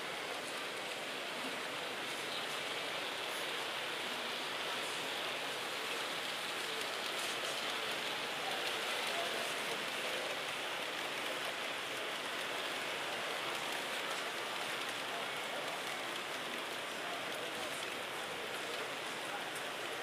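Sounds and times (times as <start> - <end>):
crowd hubbub in a hall: 0.0 - 20.0.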